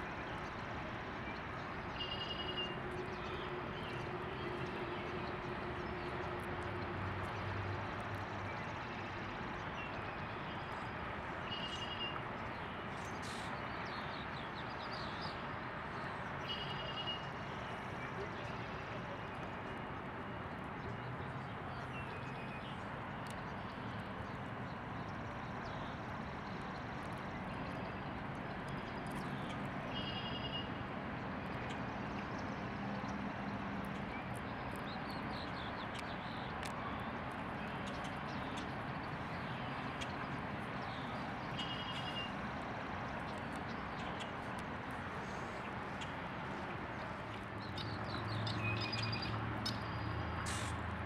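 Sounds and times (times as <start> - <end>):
steady background noise: 0.0 - 51.0.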